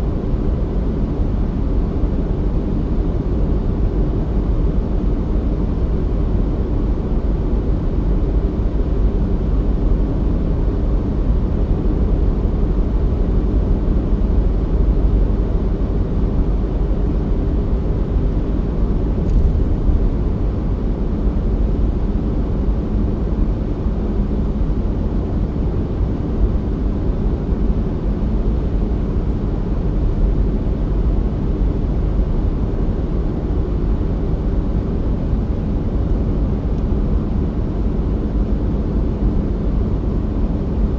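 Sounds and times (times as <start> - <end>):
car engine and tyres rumbling: 0.2 - 40.9.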